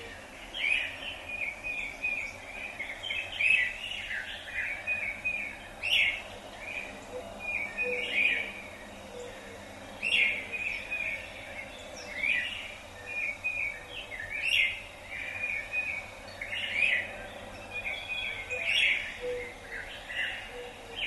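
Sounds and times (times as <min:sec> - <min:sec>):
outdoor background hiss: 0:00.0 - 0:21.0
songbird singing: 0:00.0 - 0:21.0.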